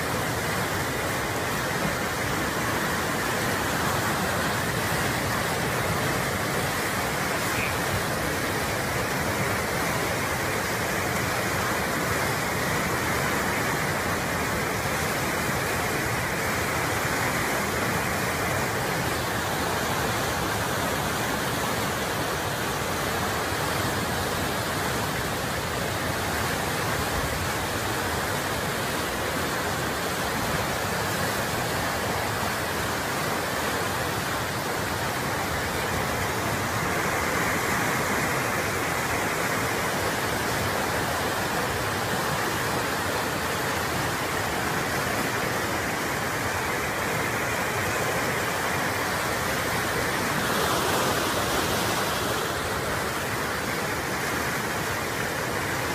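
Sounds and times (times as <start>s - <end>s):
flood water rushing: 0.0s - 55.9s.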